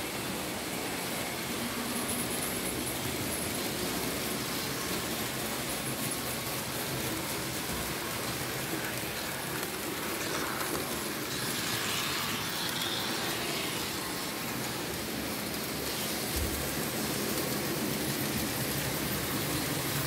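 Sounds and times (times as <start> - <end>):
model train whirring on rails: 0.0 - 20.0.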